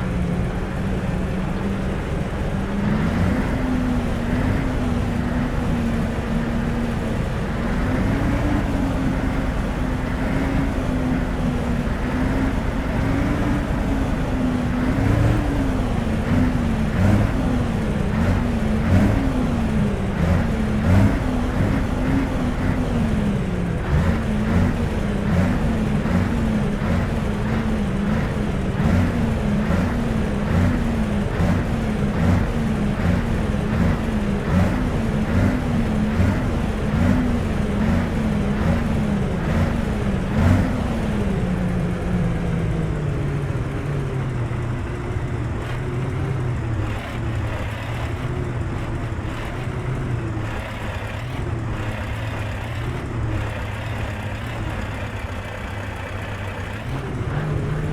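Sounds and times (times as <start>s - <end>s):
diesel engine revving and idling: 0.0s - 57.9s.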